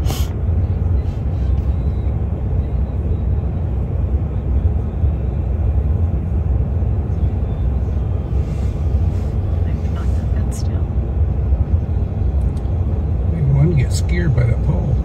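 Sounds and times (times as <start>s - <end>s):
vehicle engine rumbling inside: 0.0s - 15.0s.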